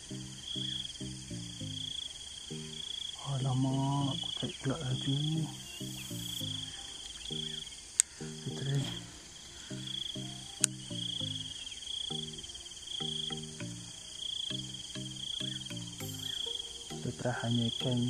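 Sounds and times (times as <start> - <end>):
background music with low notes: 0.0 - 18.0
insects trilling: 0.0 - 18.0.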